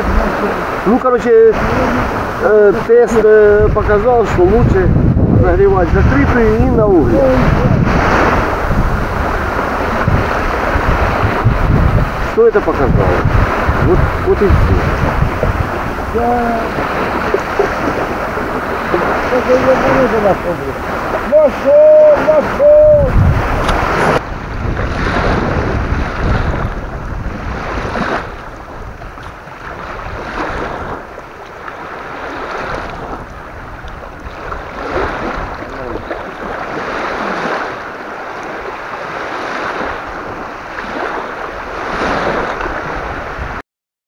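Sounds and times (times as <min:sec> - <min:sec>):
gusty wind buffeting microphone: 0:00.0 - 0:43.6
waves washing on shore: 0:00.0 - 0:43.6.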